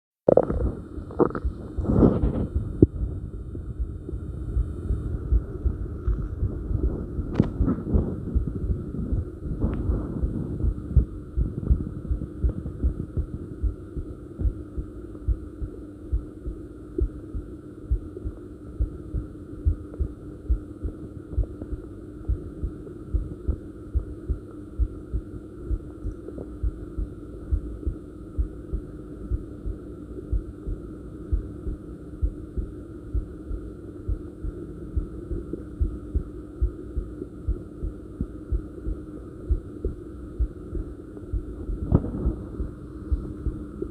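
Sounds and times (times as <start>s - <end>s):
heartbeat thumps: 0.3s - 43.9s
low hum: 0.3s - 43.9s.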